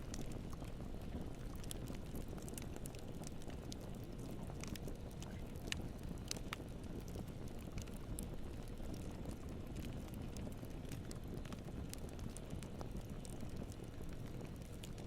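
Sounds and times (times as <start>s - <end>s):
campfire flames rumbling: 0.0s - 15.0s
fire crackles and pops: 0.0s - 15.0s.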